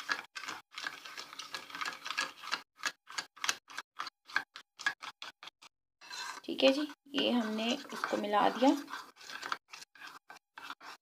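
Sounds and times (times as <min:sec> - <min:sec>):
utensil stirring in bowl: 0:00.0 - 0:11.0.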